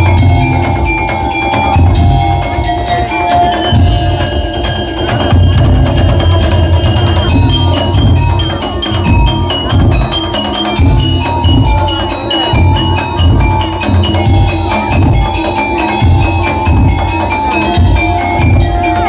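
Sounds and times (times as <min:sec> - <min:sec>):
bell-like melody: 0:00.0 - 0:19.0
heavy drum beats: 0:00.0 - 0:19.0.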